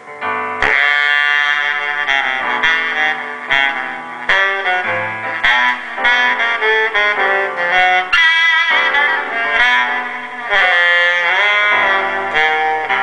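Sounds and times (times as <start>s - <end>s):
music with held notes through loudspeaker: 0.0s - 13.0s.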